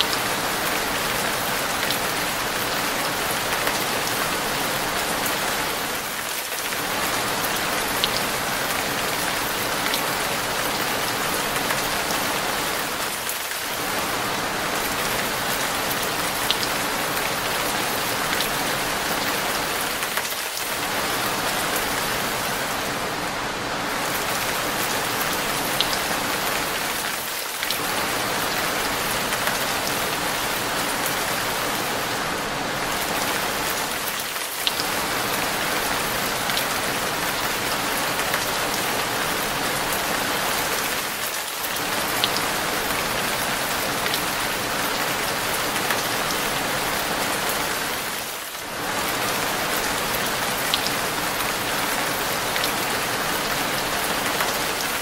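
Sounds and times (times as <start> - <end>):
heavy rain on hard surface: 0.0 - 55.0.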